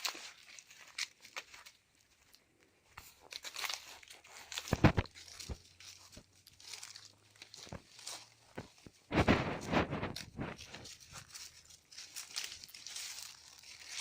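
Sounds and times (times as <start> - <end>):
dry leaves crunching: 0.0 - 14.0.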